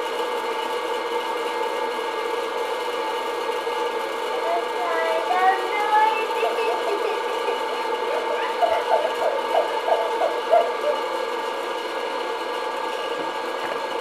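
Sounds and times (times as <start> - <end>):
popcorn popper fan motor drone: 0.0 - 14.0.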